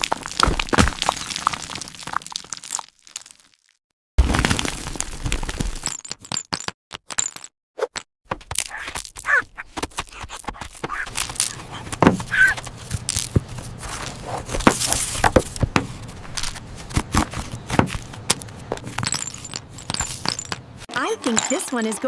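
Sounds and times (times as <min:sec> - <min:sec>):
crunching and crackling: 0:00.0 - 0:06.0, 0:08.3 - 0:22.0.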